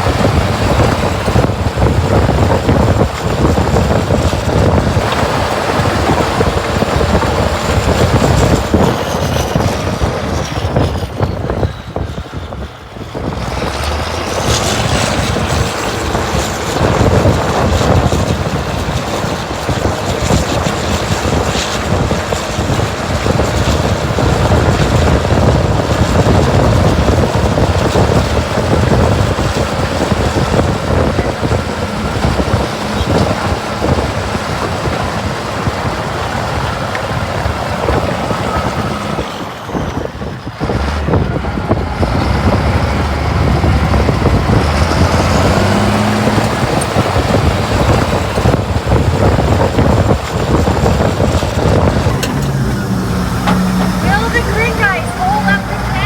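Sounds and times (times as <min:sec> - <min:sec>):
heavy machinery engine running: 0:00.0 - 0:56.0
wind noise: 0:00.0 - 0:56.0.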